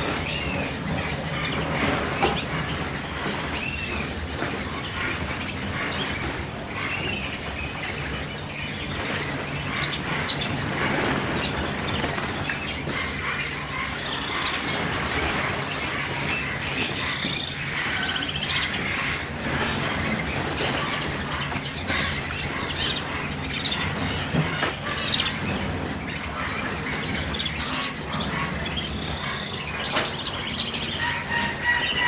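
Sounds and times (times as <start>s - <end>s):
cage birds chirping: 0.0s - 32.0s.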